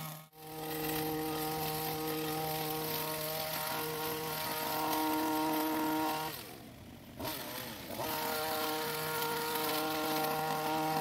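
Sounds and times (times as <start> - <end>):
hedge trimmer engine revving: 0.0 - 11.0.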